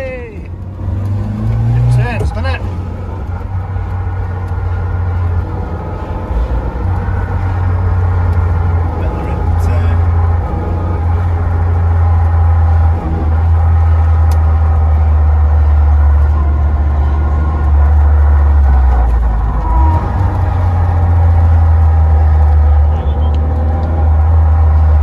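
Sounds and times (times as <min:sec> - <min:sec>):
car engine drone: 0:00.0 - 0:25.0
road noise: 0:00.0 - 0:25.0.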